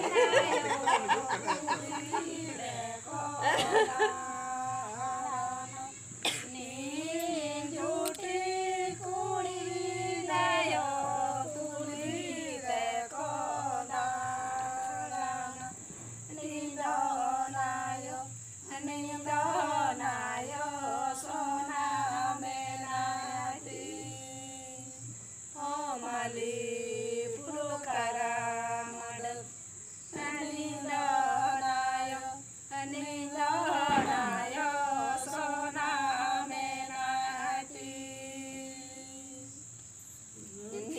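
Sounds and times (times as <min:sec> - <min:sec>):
women singing unaccompanied: 0:00.0 - 0:40.9.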